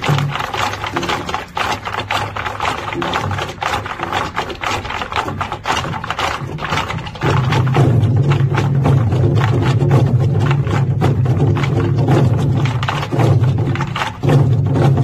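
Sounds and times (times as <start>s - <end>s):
barrel drums beaten with sticks: 0.0s - 15.0s.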